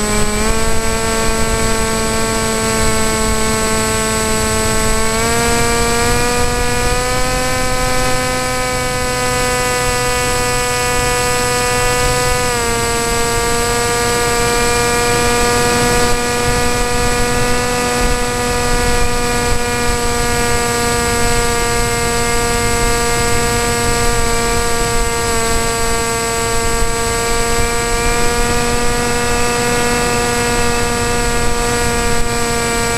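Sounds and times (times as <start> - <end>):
model aircraft motor buzzing: 0.0 - 32.9.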